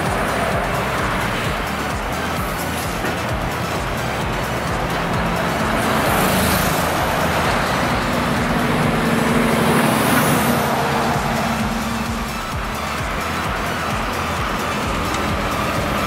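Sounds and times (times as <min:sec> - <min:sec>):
trucks driving past: 0:00.0 - 0:16.0.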